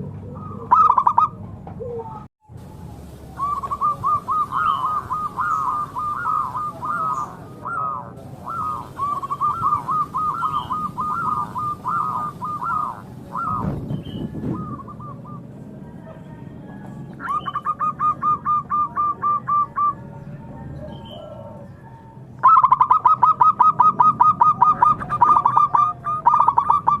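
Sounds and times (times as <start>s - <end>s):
dove cooing: 0.0s - 2.3s, 3.0s - 27.0s.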